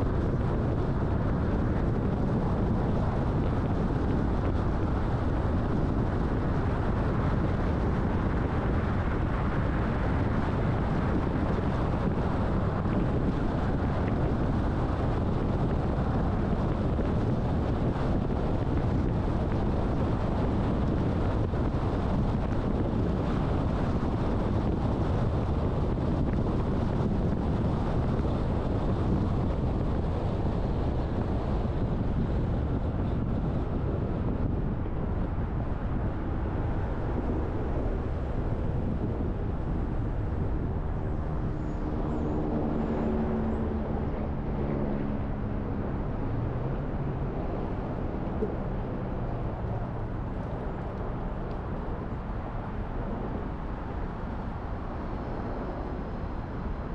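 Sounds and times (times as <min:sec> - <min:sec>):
car road and wind noise: 0:00.0 - 0:56.9.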